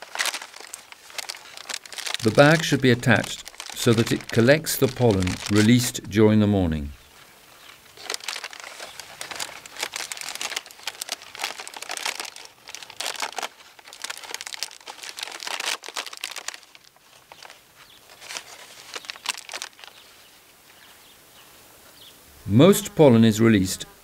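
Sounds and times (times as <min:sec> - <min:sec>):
paper bag crinkling: 0:00.0 - 0:06.2, 0:07.1 - 0:20.4.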